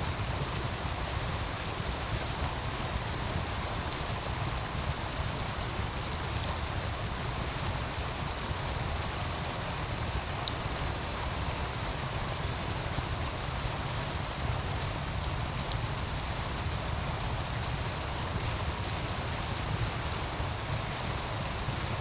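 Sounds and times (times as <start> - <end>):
wood fire crackling and popping: 0.1 - 22.0.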